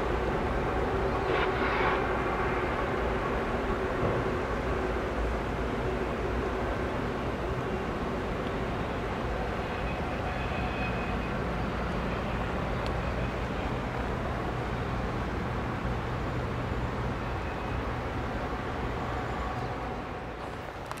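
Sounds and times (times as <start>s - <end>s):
broad rushing noise: 0.0s - 21.0s
diesel locomotives rumbling: 0.0s - 21.0s.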